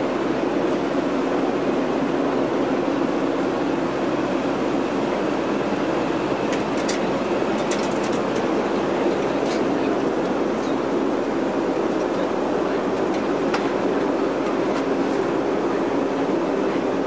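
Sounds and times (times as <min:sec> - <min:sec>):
turboprop engines droning: 0:00.0 - 0:17.0.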